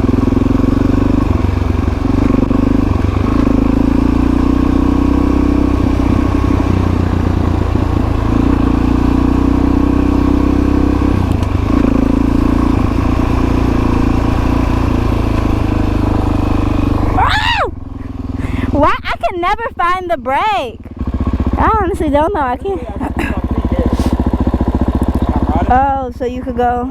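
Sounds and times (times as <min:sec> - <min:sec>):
dirt bike engine running: 0:00.0 - 0:26.9.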